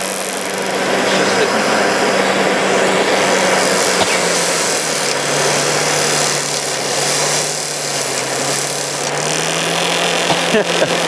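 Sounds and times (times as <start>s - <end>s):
fan motor hum: 0.0s - 11.0s
torch flame hissing: 0.0s - 11.0s.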